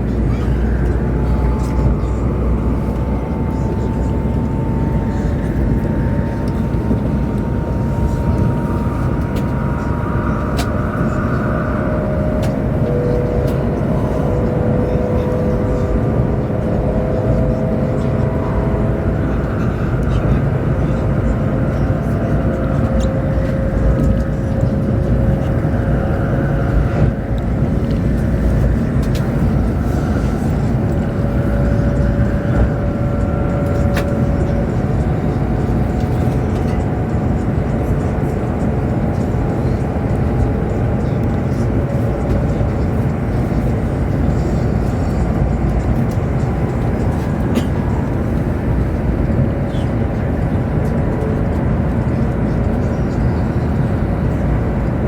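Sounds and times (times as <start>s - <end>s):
faint whining tones: 0.0s - 55.0s
train rumble inside cabin: 0.0s - 55.0s.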